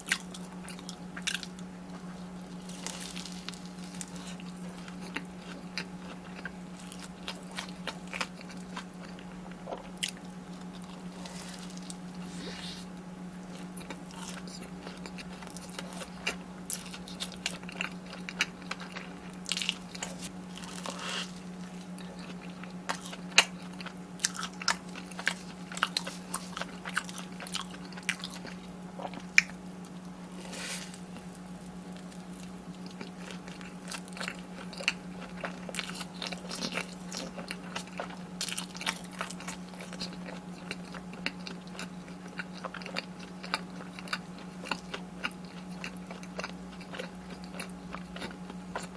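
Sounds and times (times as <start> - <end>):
crunchy food chewing: 0.0 - 48.9
steady low hum: 0.0 - 48.9.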